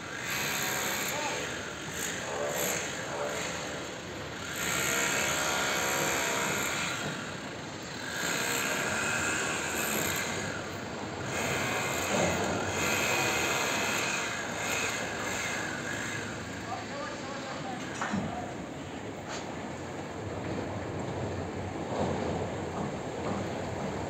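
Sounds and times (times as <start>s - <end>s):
construction equipment running: 0.0s - 24.0s.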